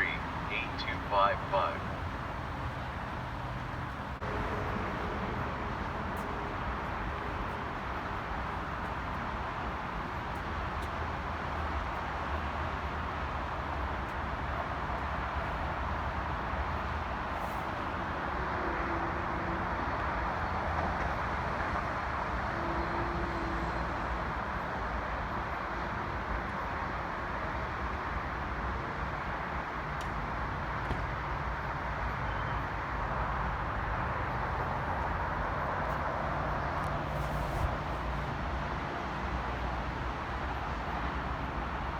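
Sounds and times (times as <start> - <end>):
vehicle rumble and hiss: 0.0 - 41.9.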